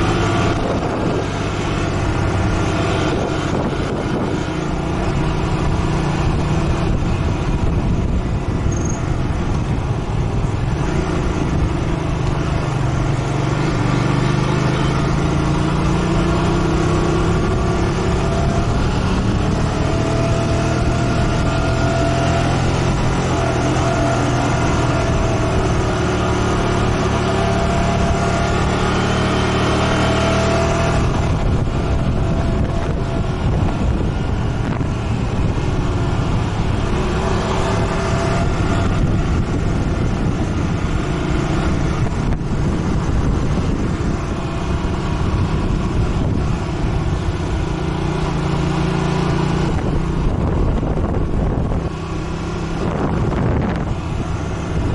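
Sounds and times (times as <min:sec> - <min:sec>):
motorcycle engine: 0:00.0 - 0:54.9
wind and road noise: 0:00.0 - 0:54.9.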